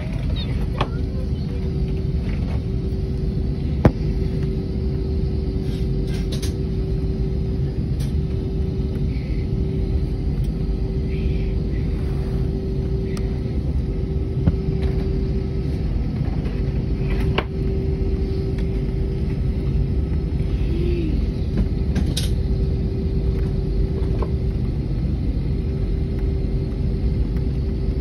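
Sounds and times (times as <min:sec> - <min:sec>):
airliner cabin rumble: 0:00.0 - 0:28.0
constant hum: 0:00.0 - 0:28.0.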